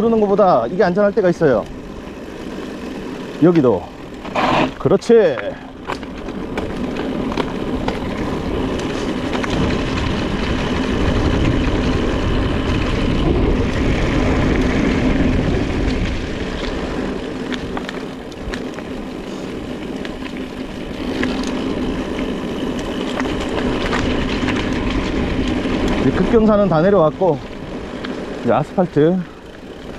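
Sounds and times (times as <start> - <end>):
bike clicks and rattles: 0.0 - 29.9
tyres rolling over rough ground: 0.0 - 29.9
wind rushing over microphone: 0.0 - 29.9.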